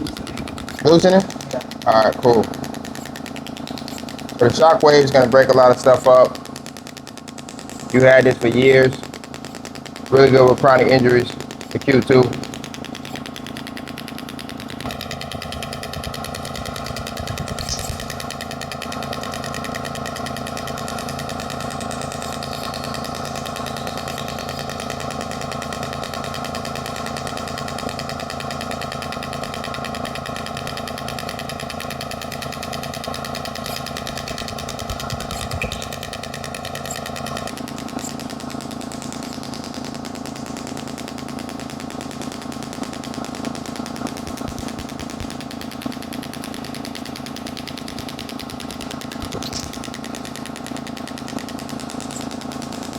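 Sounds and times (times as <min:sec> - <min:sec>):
shockwave device buzzing rattle: 0:00.0 - 0:52.9.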